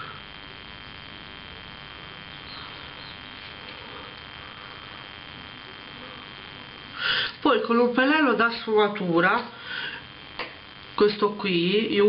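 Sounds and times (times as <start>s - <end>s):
background hiss: 0.0s - 11.1s
high-pitched whine: 0.0s - 12.0s.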